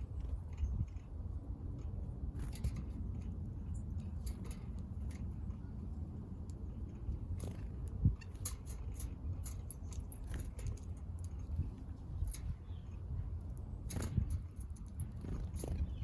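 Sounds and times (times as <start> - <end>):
steady low rumble: 0.0 - 16.0
birds pecking at feed: 1.7 - 16.0.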